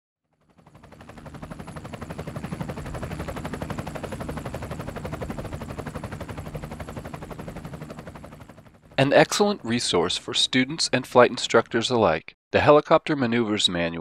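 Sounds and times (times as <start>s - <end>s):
helicopter rotor chopping: 0.3s - 11.9s.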